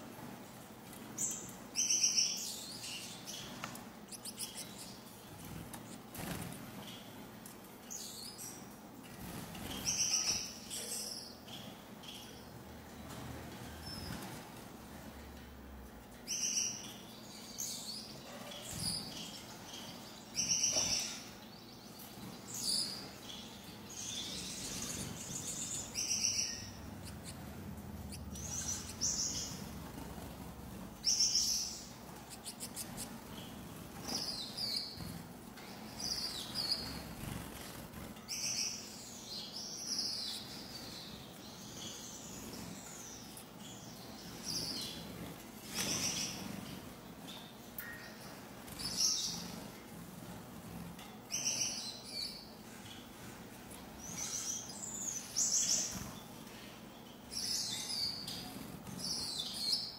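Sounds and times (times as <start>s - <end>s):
finches chirping and chattering: 0.8s - 7.2s, 7.8s - 14.4s, 16.1s - 59.9s.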